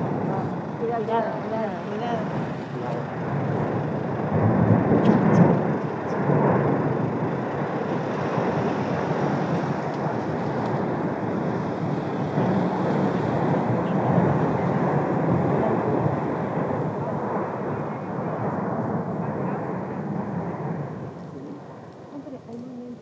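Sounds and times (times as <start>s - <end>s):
deep volcanic rumble: 0.0s - 23.0s.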